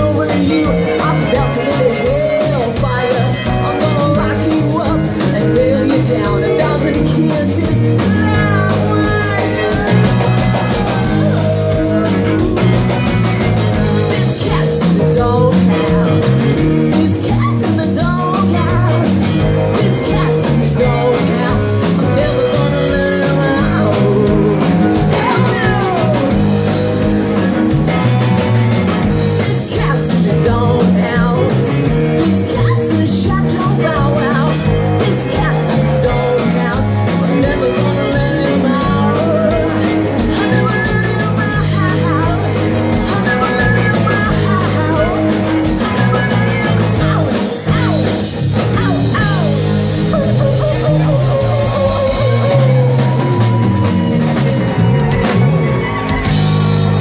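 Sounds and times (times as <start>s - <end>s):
woman singing: 0.0s - 26.5s, 29.3s - 53.8s
live rock band playing: 0.0s - 57.0s.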